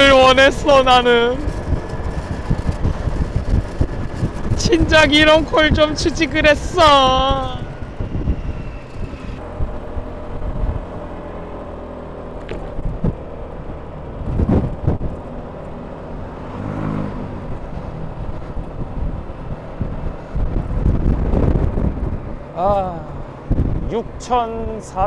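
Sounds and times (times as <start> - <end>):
wind on microphone: 0.0 - 11.1, 12.5 - 13.3, 14.1 - 15.4, 16.6 - 24.8
motor scooter engine: 0.0 - 24.5
road rumble: 0.0 - 25.0.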